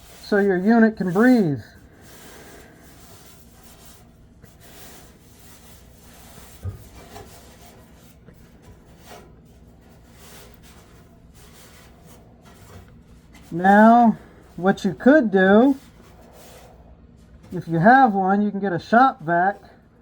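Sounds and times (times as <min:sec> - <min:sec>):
lint rustling: 0:00.0 - 0:18.2.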